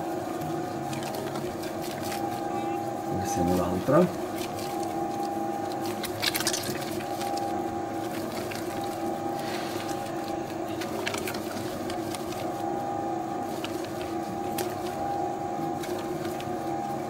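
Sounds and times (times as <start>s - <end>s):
dough mixer motor humming: 0.0s - 17.0s.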